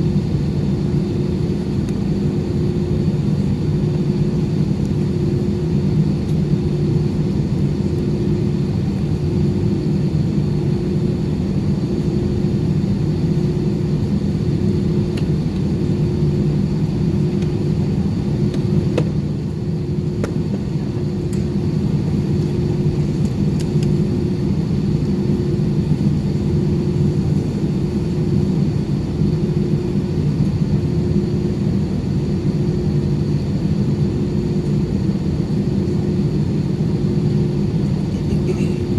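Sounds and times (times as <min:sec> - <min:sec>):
faint high whine: 0:00.0 - 0:38.9
jet engine rumble in cabin: 0:00.0 - 0:38.9.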